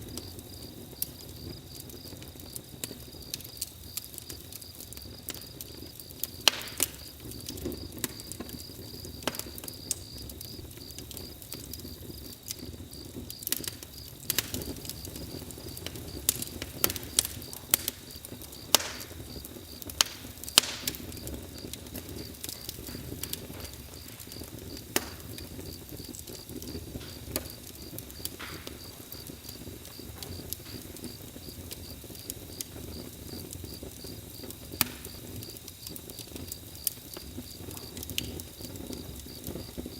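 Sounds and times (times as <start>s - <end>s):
campfire crackling: 0.0s - 39.9s
insects chirping: 0.0s - 39.9s.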